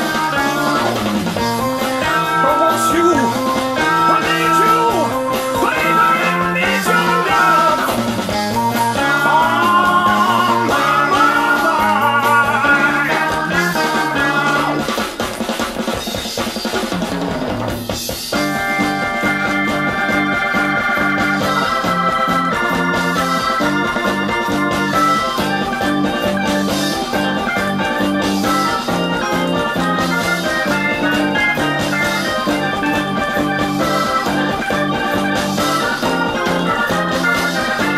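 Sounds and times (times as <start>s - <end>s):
held organ chords: 0.0s - 15.0s, 18.3s - 37.9s
progressive rock from vinyl record: 0.0s - 37.9s.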